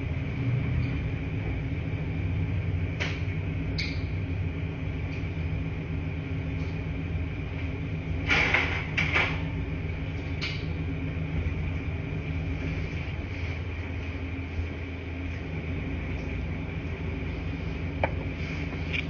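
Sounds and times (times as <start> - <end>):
washing machines humming: 0.0 - 19.0.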